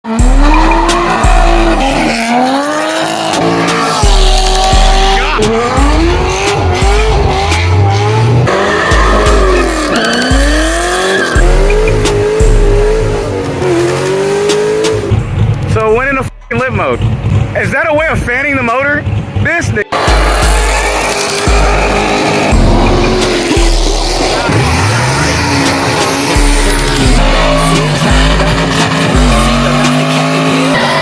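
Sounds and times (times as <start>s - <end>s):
engines revving: 0.0s - 31.0s
music with heavy bass: 0.0s - 31.0s
tires squealing: 0.1s - 16.1s, 16.9s - 31.0s.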